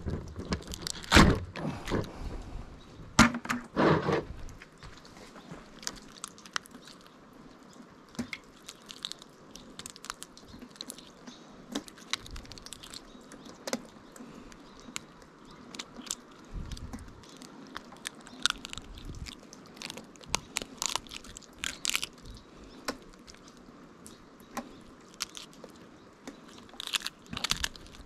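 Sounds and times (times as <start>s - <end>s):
crab shell cracking: 0.2s - 2.1s, 5.8s - 28.0s.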